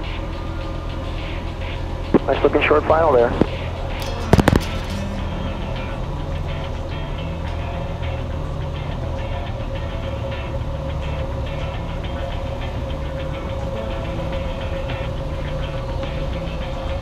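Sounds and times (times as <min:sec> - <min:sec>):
airplane engine drone: 0:00.0 - 0:17.0
constant engine whine: 0:00.0 - 0:17.0.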